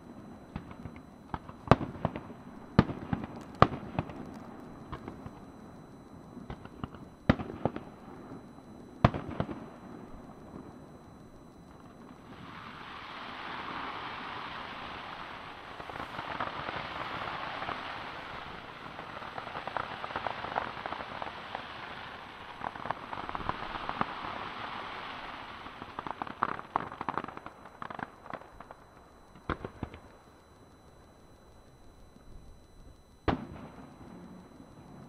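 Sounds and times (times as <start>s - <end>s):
fireworks crackling and popping: 0.0s - 5.8s, 6.4s - 8.4s, 9.0s - 35.0s.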